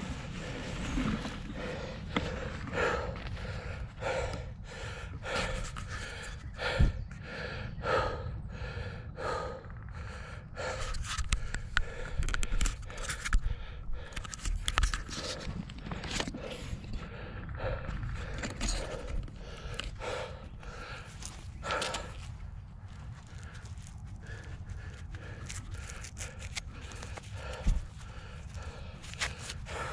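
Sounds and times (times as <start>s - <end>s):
person panting: 0.0s - 29.9s.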